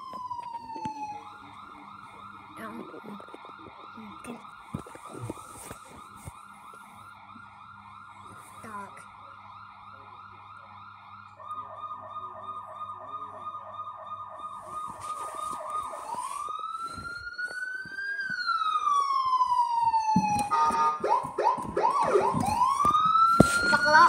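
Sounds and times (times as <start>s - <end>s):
toy car electronic siren: 0.0s - 24.0s.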